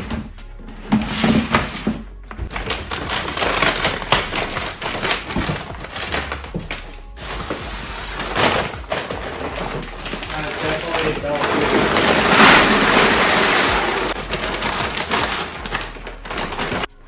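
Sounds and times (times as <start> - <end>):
background music: 0.0 - 17.0
plastic bag rustling: 0.0 - 17.0
scissors cutting bag: 2.5 - 16.9.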